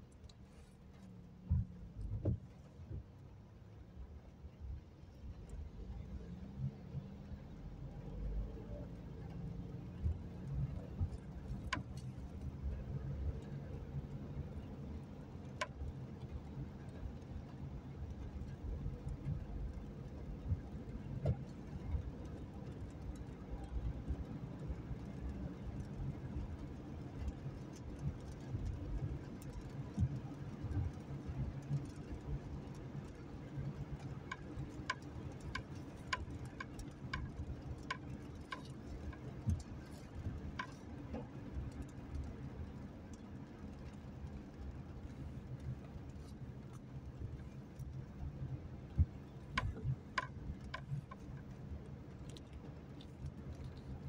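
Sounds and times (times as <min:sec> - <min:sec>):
light ticks: 0:00.0 - 0:03.3, 0:08.5 - 0:54.0
car driving on wet road: 0:00.0 - 0:54.0.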